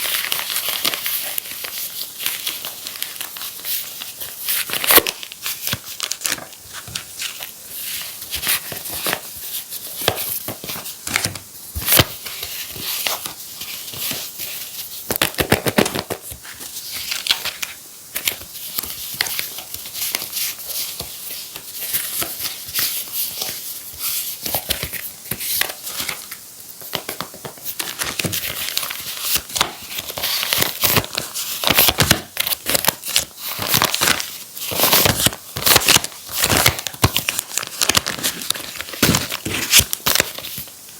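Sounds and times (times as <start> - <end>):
paper crinkling and tearing: 0.0 - 40.7.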